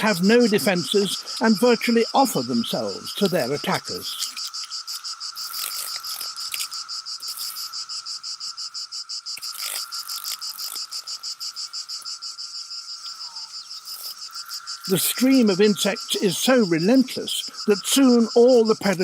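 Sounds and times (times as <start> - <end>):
cicadas droning buzz: 0.0 - 19.0
pulsing cicada buzz: 0.0 - 19.0.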